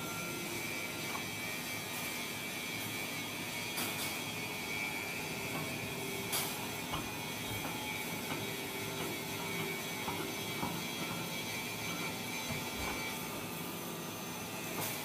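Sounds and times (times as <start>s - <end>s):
hydraulic press humming and whining: 0.0s - 15.0s.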